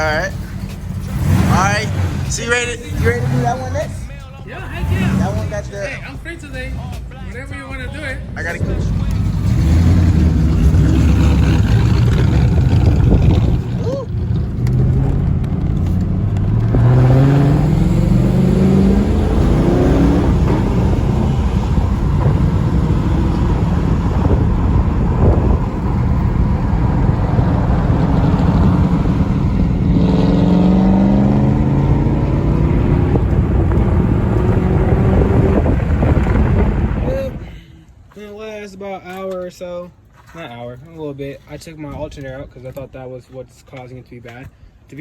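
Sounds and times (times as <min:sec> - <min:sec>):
loud car engine accelerating: 0:00.0 - 0:37.4.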